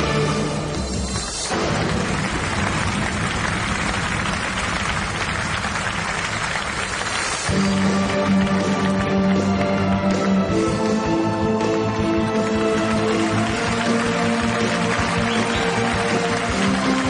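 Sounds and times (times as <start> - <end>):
music: 0.0 - 17.0
audience applause: 0.7 - 11.1, 12.2 - 17.0.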